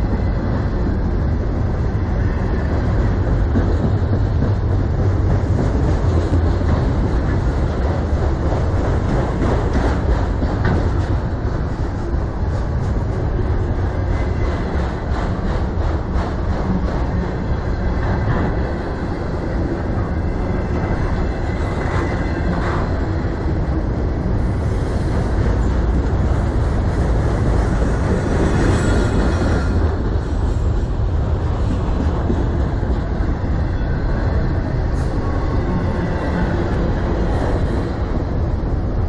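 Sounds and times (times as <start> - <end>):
steel wheels running on rails: 0.0 - 39.0.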